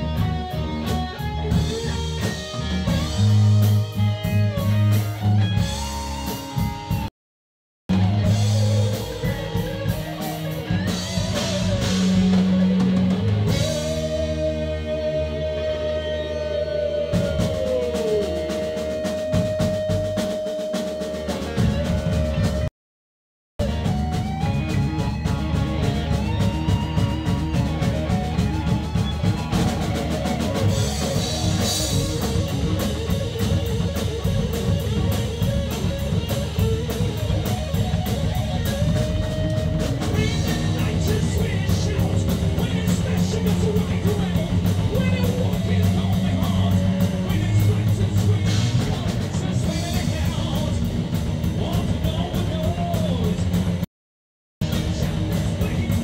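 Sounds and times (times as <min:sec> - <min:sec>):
bass guitar: 0:00.0 - 0:07.1, 0:07.9 - 0:22.7, 0:23.6 - 0:53.9, 0:54.6 - 0:56.0
distorted electric guitar: 0:00.0 - 0:07.1, 0:07.9 - 0:22.7, 0:23.6 - 0:53.8, 0:54.6 - 0:56.0
drum kit with cymbals: 0:00.0 - 0:07.1, 0:07.9 - 0:22.7, 0:23.6 - 0:53.9, 0:54.6 - 0:56.0.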